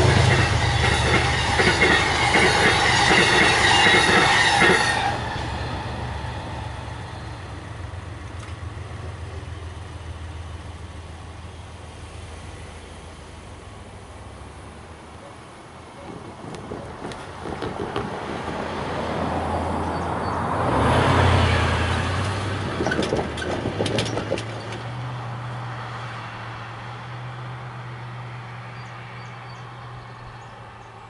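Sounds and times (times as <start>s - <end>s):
car passing: 0.0s - 31.0s.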